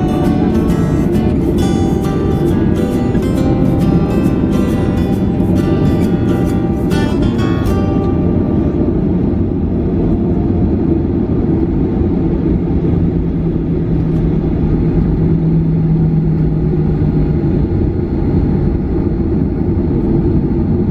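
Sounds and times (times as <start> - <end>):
airliner cabin rumble: 0.0 - 20.9
low hum: 0.0 - 20.9.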